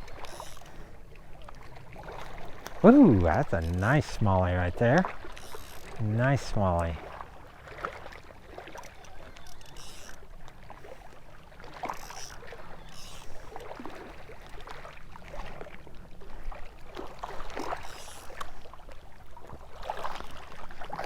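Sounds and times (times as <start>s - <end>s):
water splashing at shoreline: 0.0s - 21.0s.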